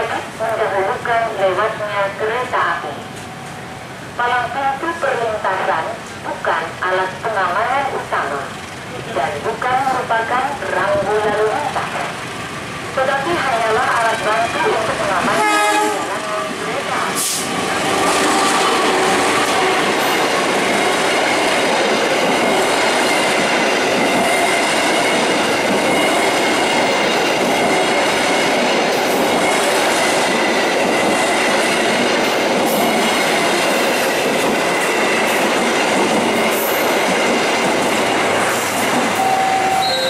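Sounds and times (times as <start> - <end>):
train wheels rumbling and clattering: 7.4 - 39.8.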